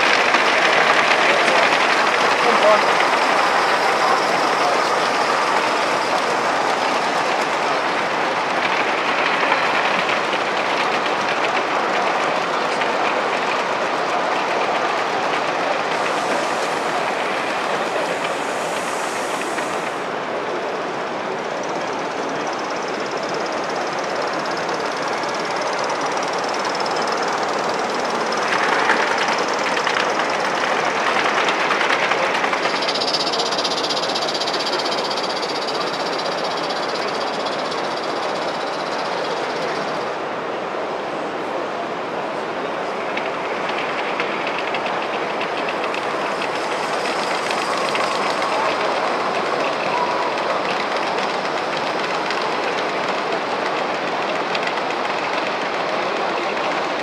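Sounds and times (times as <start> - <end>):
wheel clicks over rail joints: 0.0 - 20.0, 22.3 - 40.1, 43.0 - 57.0
model steam locomotive chuffing: 0.0 - 57.0
steam hiss: 0.0 - 57.0.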